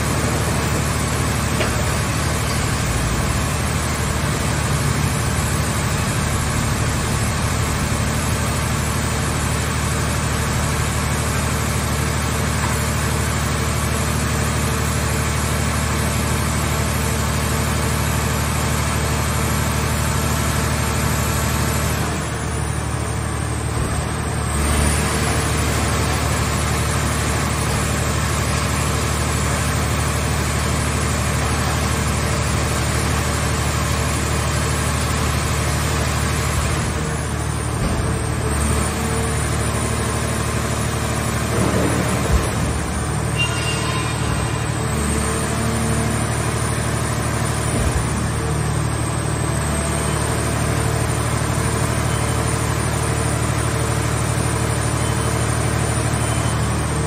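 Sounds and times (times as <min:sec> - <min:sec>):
hydraulic power unit drone: 0:00.0 - 0:57.0.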